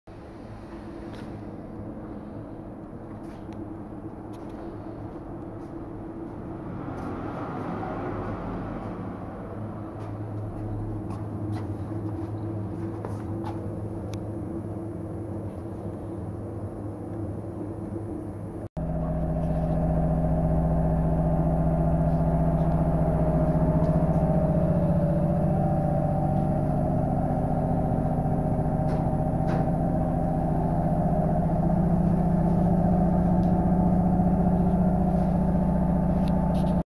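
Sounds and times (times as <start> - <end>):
workshop machinery hum: 0.1 - 36.9.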